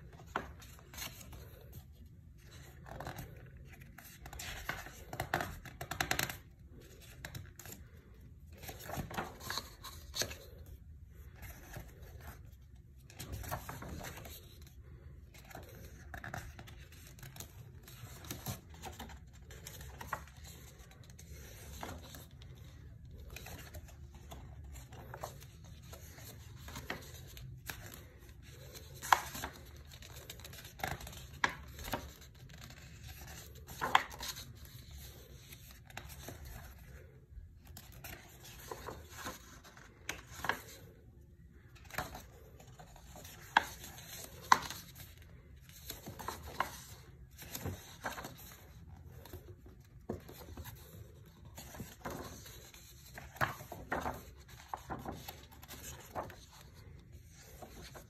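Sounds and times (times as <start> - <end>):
paper pages rustling: 0.0 - 41.0, 41.6 - 58.0.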